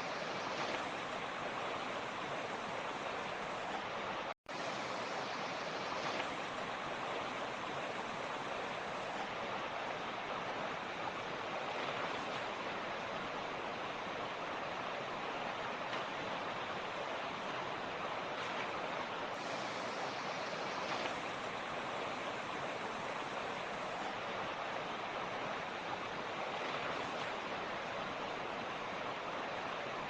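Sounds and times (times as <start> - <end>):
creek water rushing over rocks: 0.0 - 30.0.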